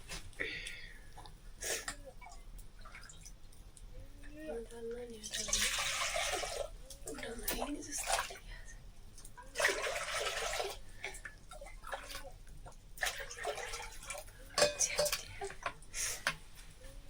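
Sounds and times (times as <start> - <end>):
water pouring and splashing: 1.1 - 3.9, 4.5 - 16.8.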